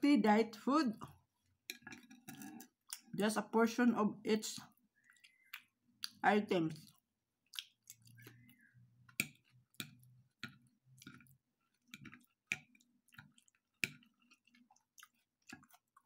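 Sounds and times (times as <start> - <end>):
soft chewing: 1.0 - 3.2, 4.6 - 16.0.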